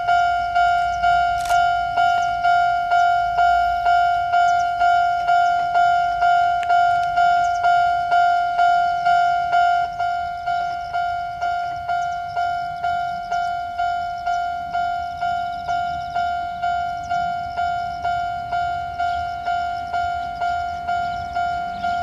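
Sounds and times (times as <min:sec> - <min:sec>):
level crossing bell ringing: 0:00.0 - 0:22.0.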